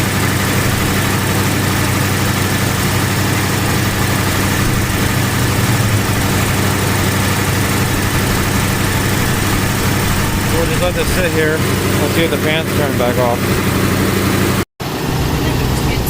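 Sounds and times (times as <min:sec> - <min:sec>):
car engine idling: 0:00.0 - 0:16.0
electric radiator fans running: 0:00.0 - 0:16.0.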